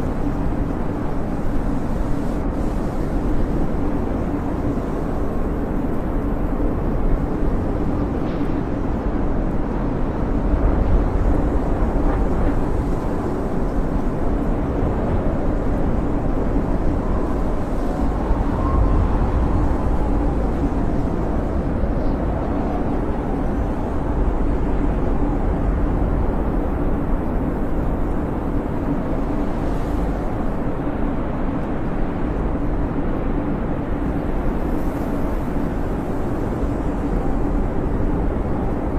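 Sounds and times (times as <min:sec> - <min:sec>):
blizzard wind howling: 0:00.0 - 0:38.9.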